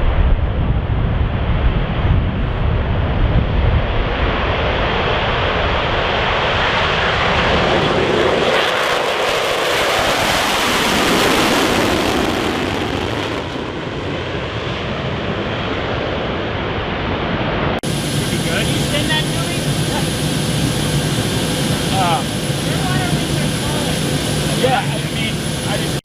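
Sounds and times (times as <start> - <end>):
aircraft engine passing overhead: 0.0 - 26.0.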